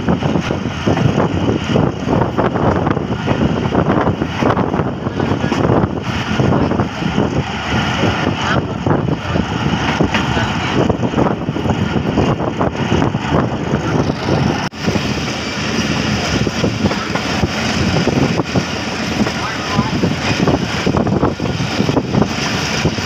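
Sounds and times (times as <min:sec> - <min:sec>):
train carriage rolling on track: 0:00.0 - 0:23.0.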